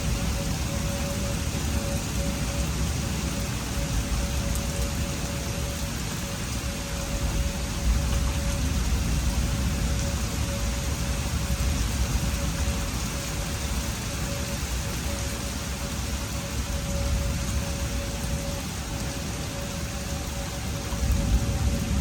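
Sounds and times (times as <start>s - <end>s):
faint steady tone: 0.0s - 22.0s
heavy rain falling: 0.0s - 22.0s
wind rumble on microphone: 0.0s - 22.0s.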